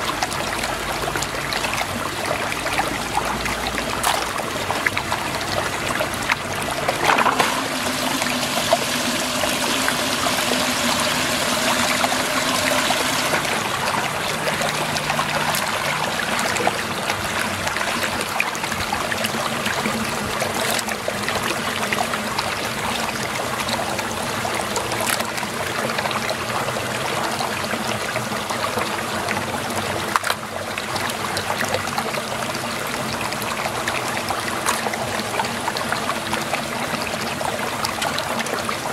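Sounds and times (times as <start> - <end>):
water gurgling down a drain: 0.0 - 38.9.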